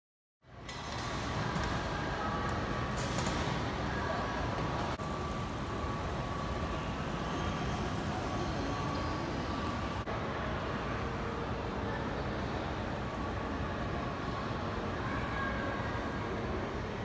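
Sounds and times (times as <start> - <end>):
indoor mall din: 0.4 - 17.0.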